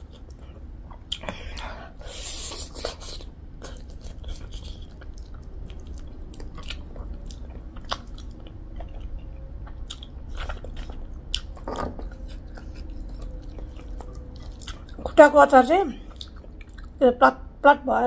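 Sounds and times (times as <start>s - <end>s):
chewing and biting food: 0.0s - 1.7s, 2.8s - 15.2s, 16.0s - 17.0s.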